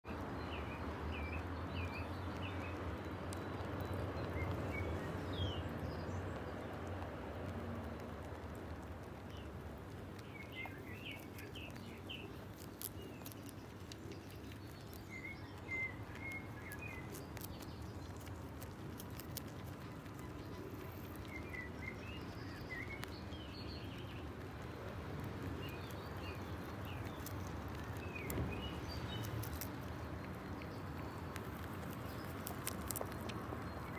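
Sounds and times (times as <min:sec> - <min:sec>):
outdoor background noise: 0:00.0 - 0:33.9
small birds chirping: 0:00.0 - 0:33.9
rabbits nibbling clicks: 0:00.1 - 0:33.9.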